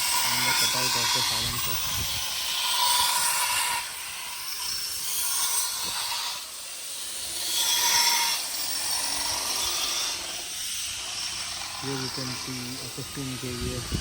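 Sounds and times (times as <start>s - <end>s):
metal cutting hiss: 0.0s - 14.0s.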